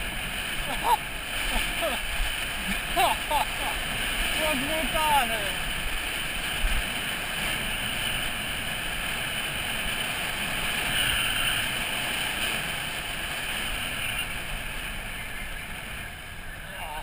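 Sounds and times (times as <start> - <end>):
skateboard wheels hissing on wet asphalt: 0.0 - 17.0
wind rushing over microphone: 0.0 - 17.0.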